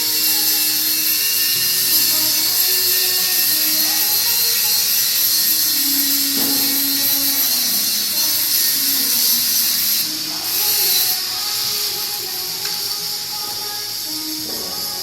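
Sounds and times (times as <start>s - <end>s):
welding arc hissing and crackling: 0.0s - 15.0s.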